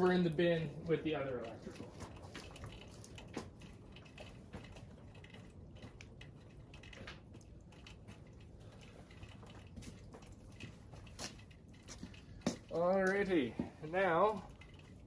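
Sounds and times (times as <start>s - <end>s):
small parts clicking and tapping: 0.0s - 15.0s.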